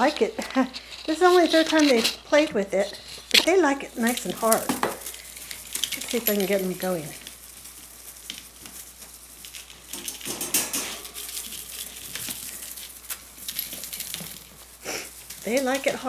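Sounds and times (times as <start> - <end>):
kittens playing with wand toy: 0.0 - 16.0.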